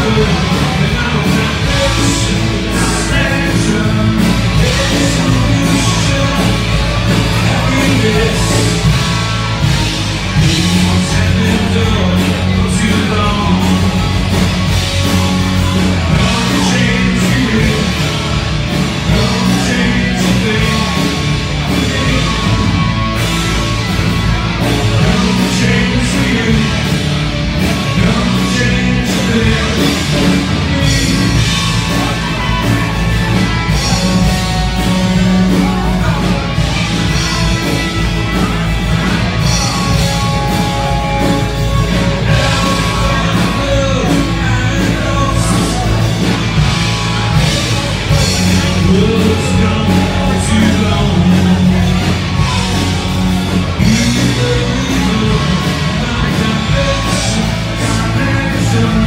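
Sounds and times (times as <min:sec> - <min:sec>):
drums: 0:00.0 - 0:59.0
live rock band playing: 0:00.0 - 0:59.0
person singing: 0:00.0 - 0:59.0.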